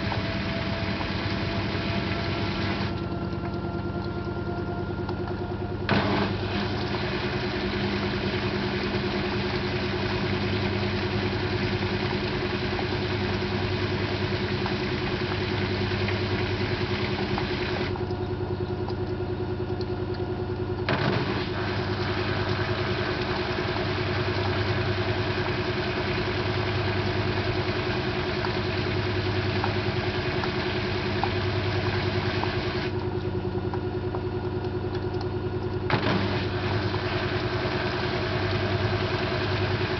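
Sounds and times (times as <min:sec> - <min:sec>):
sharp clicks in washing machine: 0:00.0 - 0:39.9
washing machine spinning: 0:00.0 - 0:39.9.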